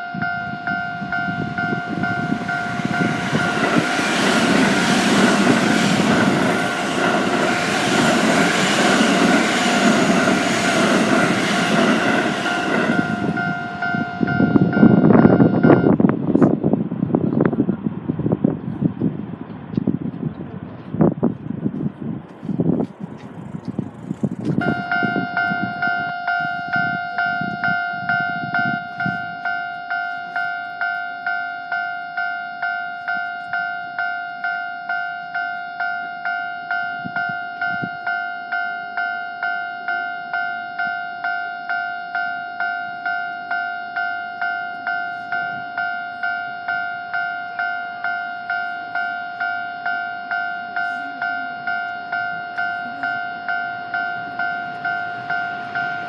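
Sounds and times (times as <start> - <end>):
level crossing warning bell: 0.0 - 16.0, 24.6 - 56.0.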